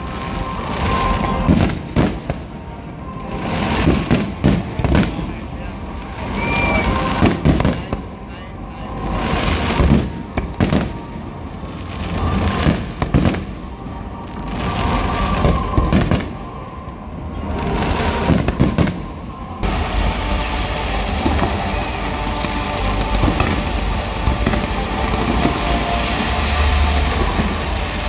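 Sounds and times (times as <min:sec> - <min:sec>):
fireworks rumble: 0:00.0 - 0:28.0.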